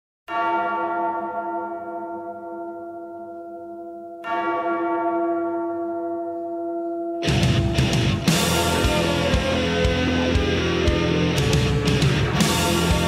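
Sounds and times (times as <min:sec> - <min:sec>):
large bell tolling: 0:00.3 - 0:13.0.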